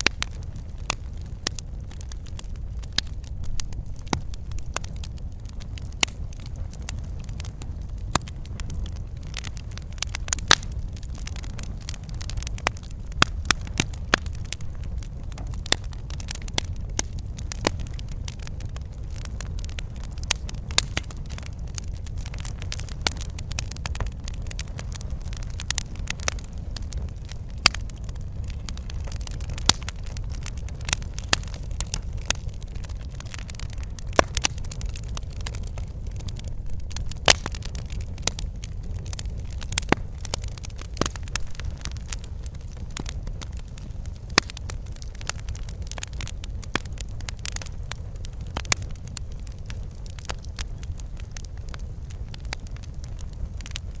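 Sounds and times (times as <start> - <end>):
fire crackles and pops: 0.0 - 54.0
wood fire burning: 0.0 - 54.0.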